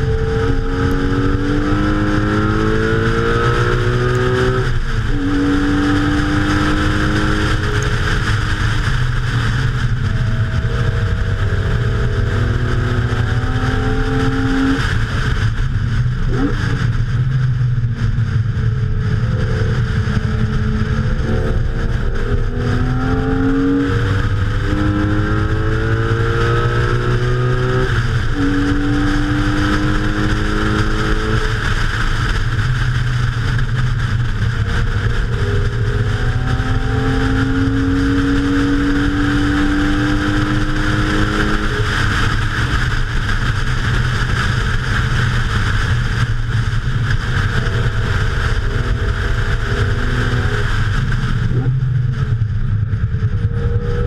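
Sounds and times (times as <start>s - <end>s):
car engine accelerating hard: 0.0s - 54.0s
wind noise: 0.0s - 54.0s.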